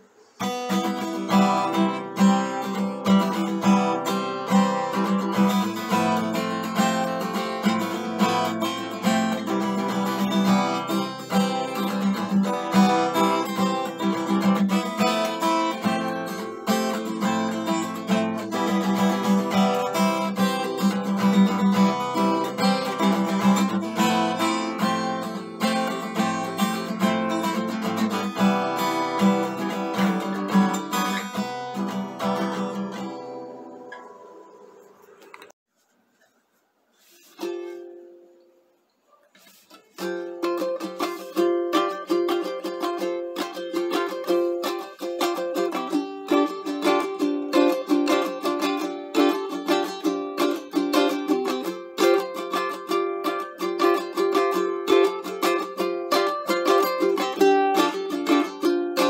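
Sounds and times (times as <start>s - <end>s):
acoustic guitar playing: 0.0s - 35.6s, 36.9s - 59.0s.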